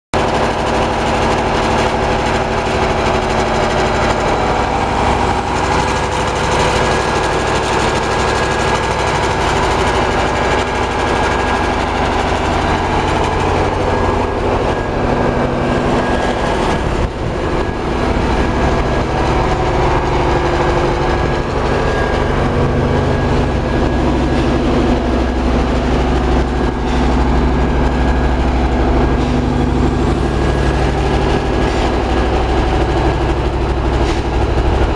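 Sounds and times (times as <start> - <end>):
generator engine humming: 0.2 - 34.9.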